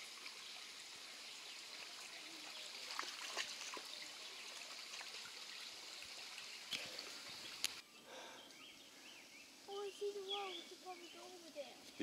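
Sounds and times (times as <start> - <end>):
stream running: 0.0 - 12.0.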